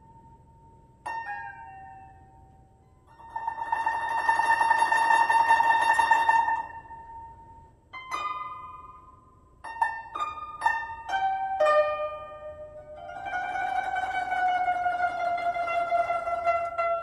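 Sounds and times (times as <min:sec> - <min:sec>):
plucked zither notes: 0:00.0 - 0:17.0
zither tremolo: 0:00.0 - 0:17.0.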